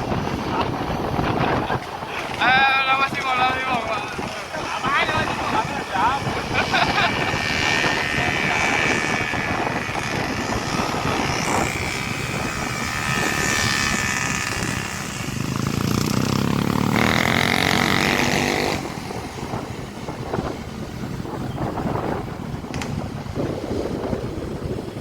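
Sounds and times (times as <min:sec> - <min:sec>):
steady rushing noise: 0:00.0 - 0:25.0
engine running and revving: 0:03.6 - 0:25.0.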